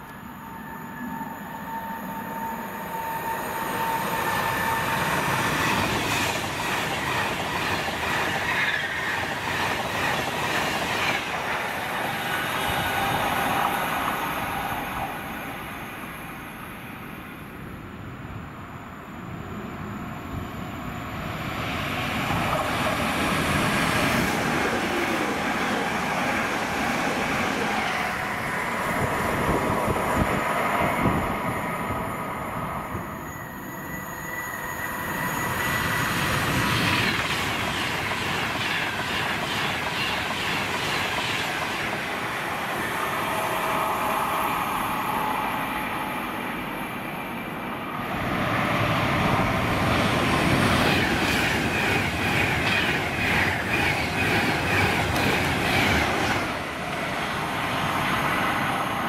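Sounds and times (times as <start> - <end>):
train passing: 0.0 - 59.0.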